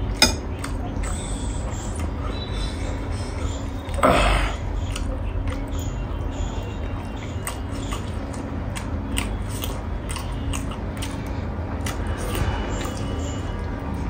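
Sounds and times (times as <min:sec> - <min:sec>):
steady low hum: 0:00.0 - 0:14.0
chewing with wet mouth clicks: 0:00.1 - 0:14.0.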